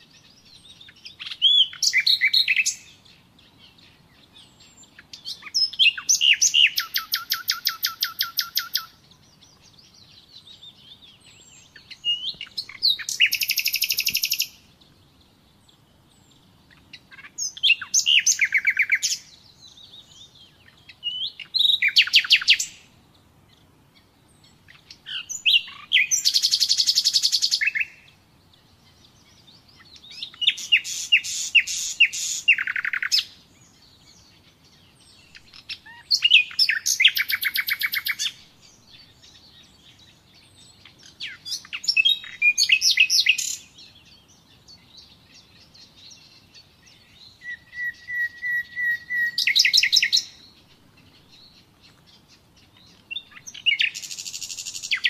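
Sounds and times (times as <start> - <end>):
nightingale singing: 0.0 - 55.0.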